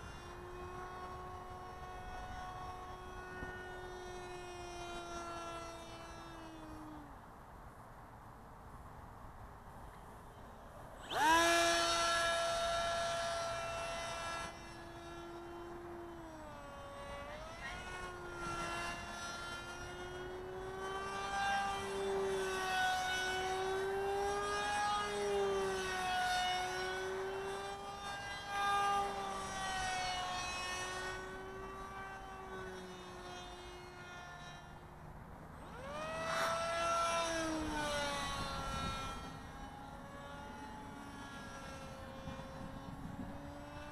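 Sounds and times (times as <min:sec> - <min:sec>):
model plane motor whine: 0:00.0 - 0:07.7, 0:09.8 - 0:43.9.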